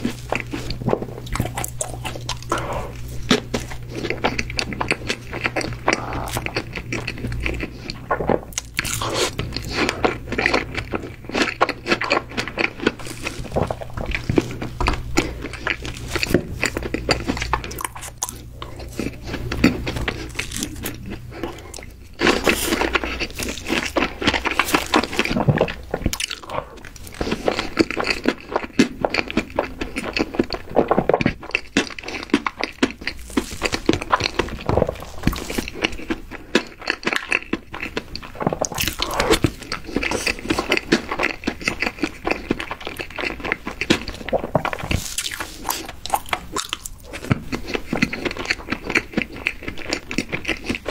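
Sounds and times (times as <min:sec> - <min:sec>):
chewing and eating cake: 0:00.0 - 0:50.9
faint low hum: 0:00.0 - 0:50.9.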